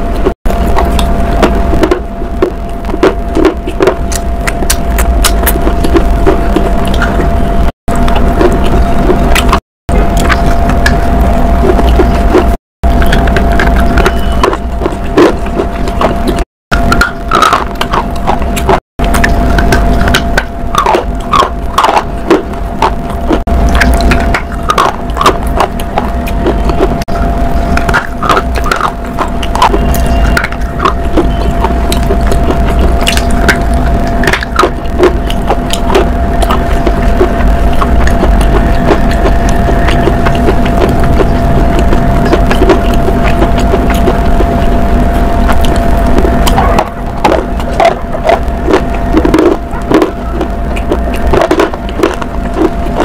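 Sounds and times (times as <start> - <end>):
crunching and chewing: 0.0 - 53.0
faint steady hum: 0.0 - 53.0.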